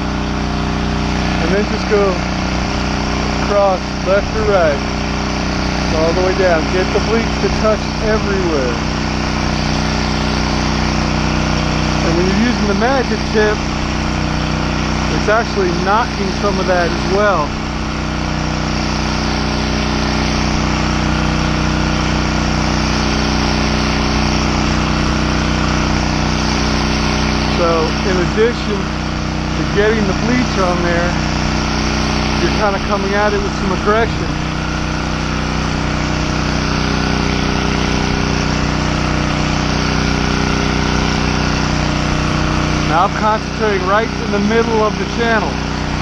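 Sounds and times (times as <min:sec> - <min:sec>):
pressure washer engine drone: 0:00.0 - 0:46.0.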